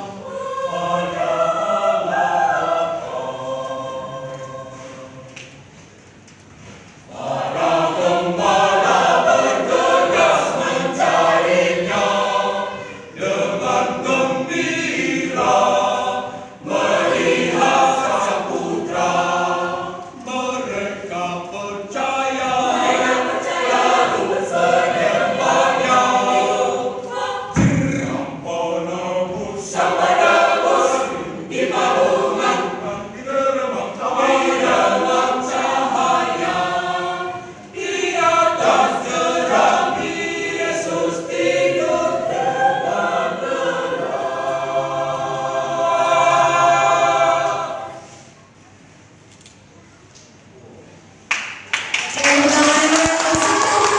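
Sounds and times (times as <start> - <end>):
choir singing in harmony: 0.0 - 5.9, 7.0 - 48.8, 52.1 - 53.9.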